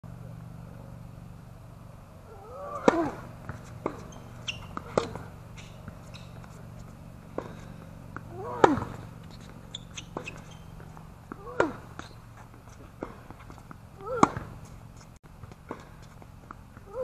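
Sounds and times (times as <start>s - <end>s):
racket hitting tennis ball: 2.3s - 17.0s
tennis ball bouncing: 2.3s - 17.0s.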